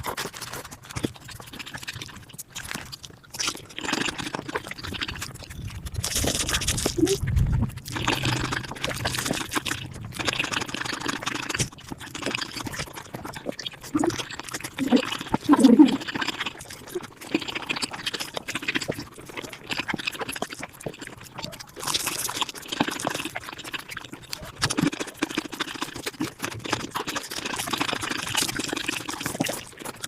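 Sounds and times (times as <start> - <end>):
rapid chewing and mouth clicks: 0.0 - 30.0
wet slurping: 0.0 - 30.0.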